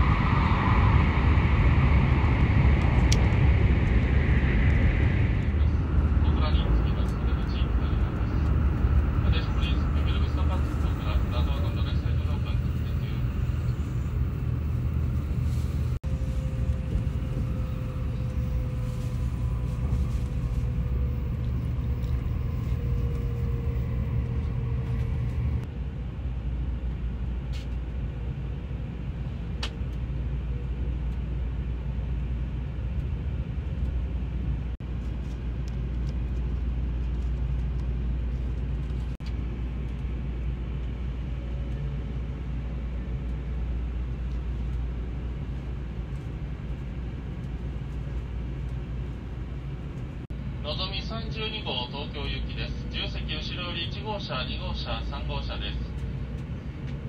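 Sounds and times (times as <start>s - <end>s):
faint whine: 0.0s - 57.0s
train rumbling at speed: 0.0s - 57.0s.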